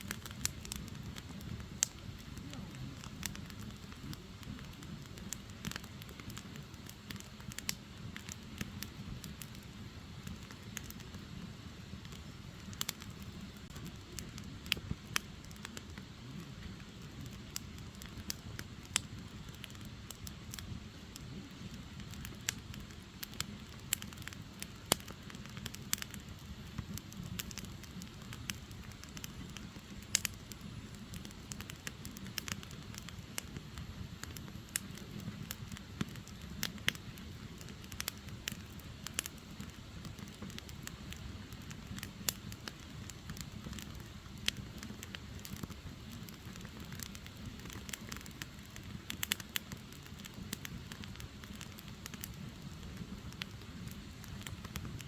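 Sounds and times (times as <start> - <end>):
logs crackling and popping: 0.0 - 55.0
low rush of flames: 0.0 - 55.0.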